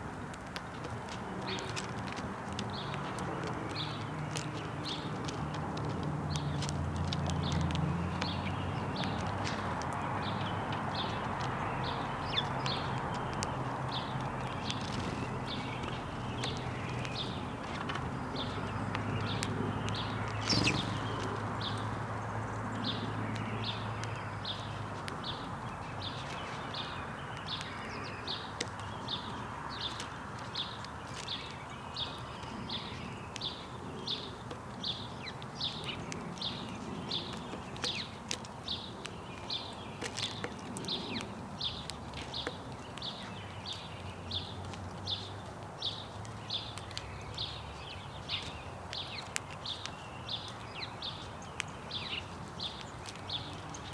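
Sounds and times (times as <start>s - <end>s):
sparrow chirping: 0.7s - 53.9s.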